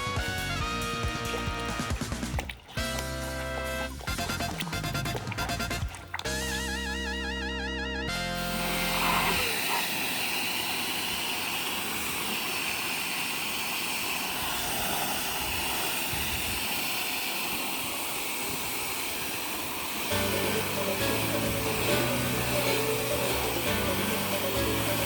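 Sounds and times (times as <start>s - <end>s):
high-pressure water spray hissing: 0.0s - 7.4s, 8.4s - 25.0s.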